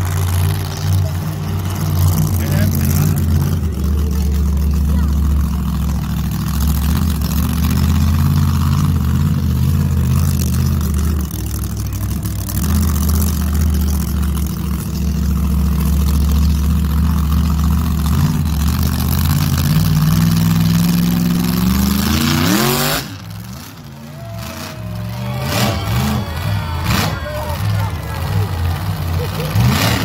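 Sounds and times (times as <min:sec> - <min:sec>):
truck engines rumbling: 0:00.0 - 0:30.0.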